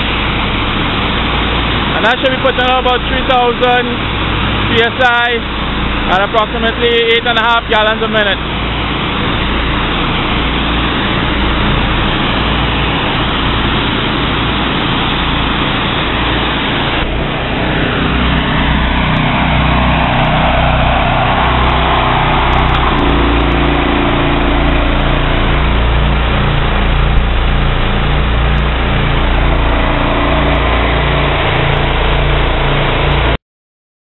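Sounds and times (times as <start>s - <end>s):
pressure washer engines running: 0.0s - 33.4s.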